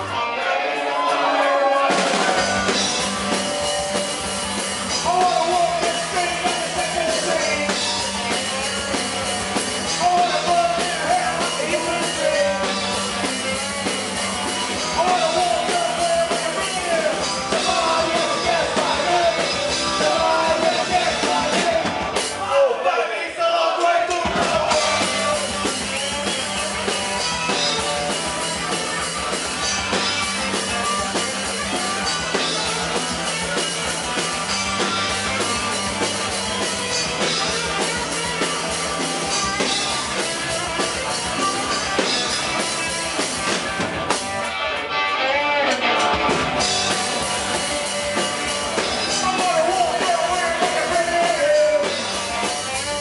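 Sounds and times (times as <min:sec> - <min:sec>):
electric bass: 0:00.0 - 0:00.6, 0:01.3 - 0:22.5, 0:24.2 - 0:53.0
drum kit: 0:00.0 - 0:22.5, 0:23.8 - 0:53.0
electric guitar: 0:00.0 - 0:22.5, 0:24.3 - 0:53.0
punk rock band playing live: 0:00.0 - 0:22.6, 0:23.8 - 0:53.0.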